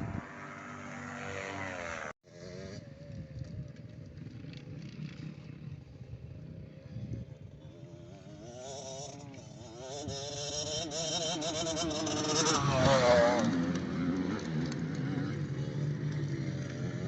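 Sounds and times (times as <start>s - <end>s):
motocross bike engine: 0.0s - 17.0s.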